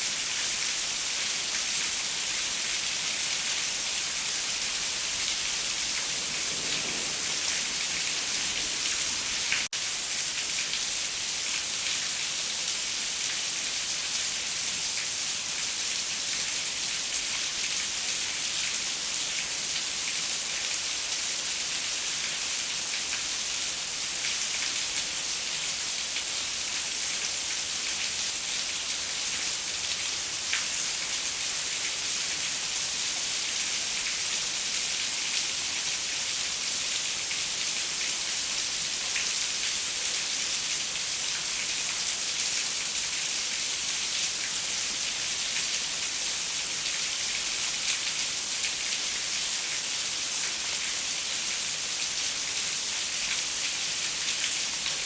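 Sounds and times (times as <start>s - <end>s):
rain on a window pane: 1.5s - 55.0s.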